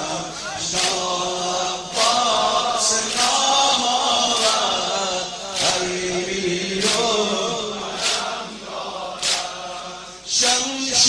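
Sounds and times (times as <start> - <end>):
man chanting a lament: 0.0 - 8.7, 9.7 - 11.0.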